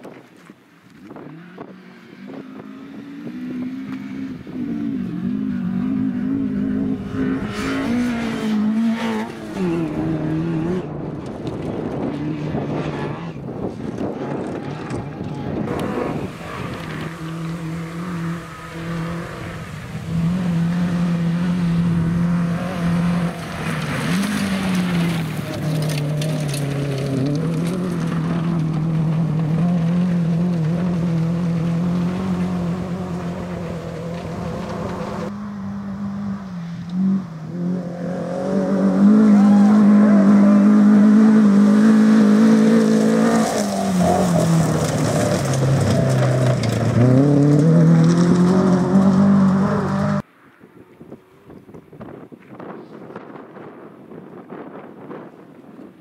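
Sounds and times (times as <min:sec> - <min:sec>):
rally car engines revving: 0:00.0 - 0:50.3
gravel noise under tyres: 0:00.0 - 0:56.0.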